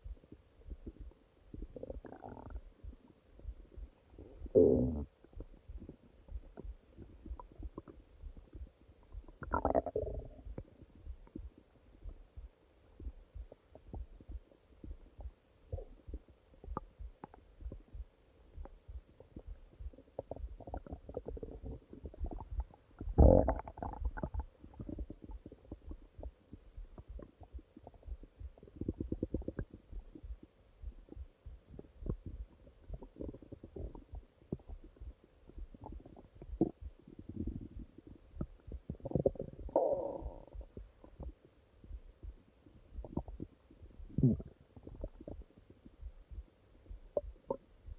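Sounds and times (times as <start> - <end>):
stomach growling and gurgling: 0.0 - 12.4, 13.0 - 18.0, 18.6 - 47.9.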